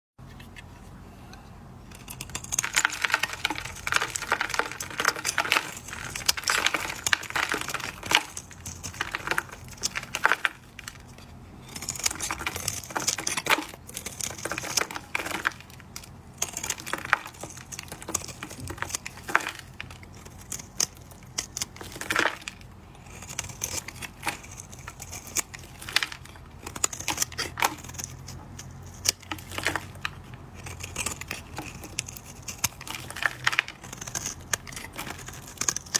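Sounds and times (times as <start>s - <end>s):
blade carving dry soap: 1.9s - 35.9s.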